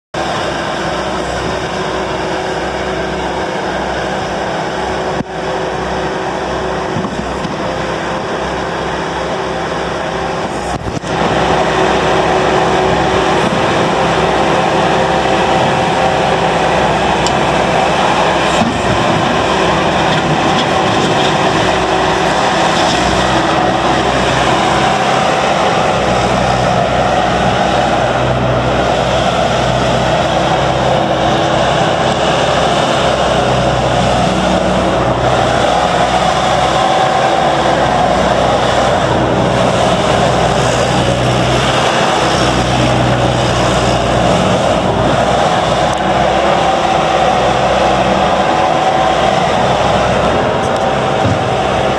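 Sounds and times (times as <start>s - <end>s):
diesel engine running: 0.1s - 51.9s.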